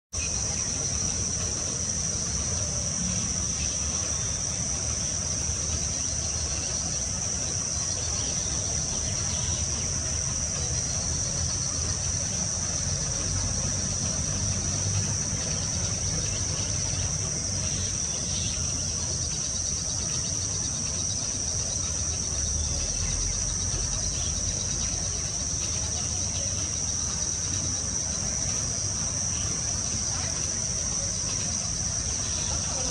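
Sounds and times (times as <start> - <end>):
insects droning: 0.2 - 32.9.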